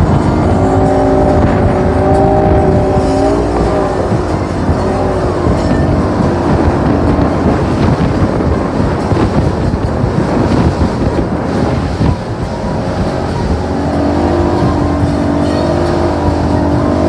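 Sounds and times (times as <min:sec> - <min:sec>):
motorboat engine drone: 0:00.0 - 0:17.0
water rushing past hull: 0:00.0 - 0:17.0
wind buffeting microphone: 0:00.0 - 0:17.0.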